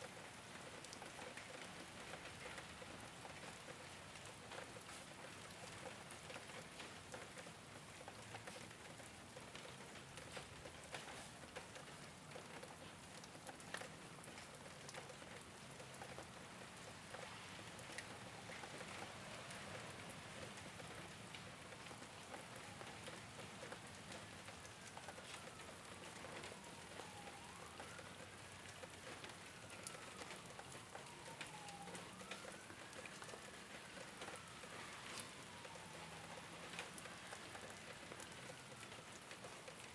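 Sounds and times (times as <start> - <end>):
rain on a rooftop: 0.0 - 39.9.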